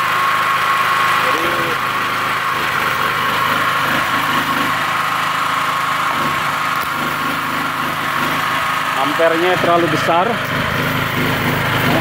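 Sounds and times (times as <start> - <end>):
petrol generator engine running: 0.0 - 12.0.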